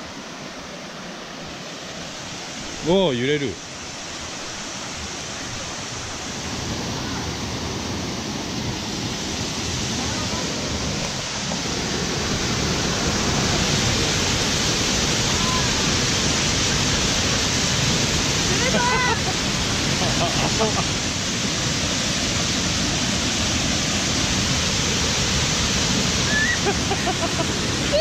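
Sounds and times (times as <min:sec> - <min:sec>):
stream and waterfall rushing: 0:00.0 - 0:28.0.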